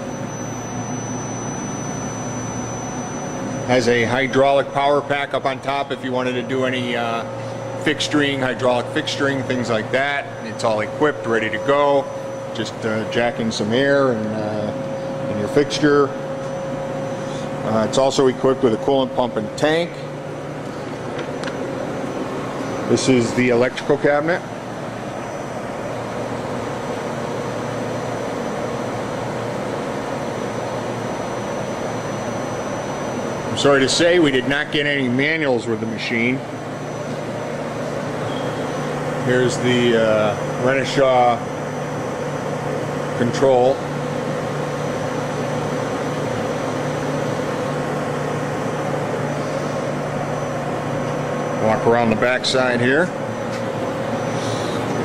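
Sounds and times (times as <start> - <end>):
machine drone with high whine: 0.0 - 55.0.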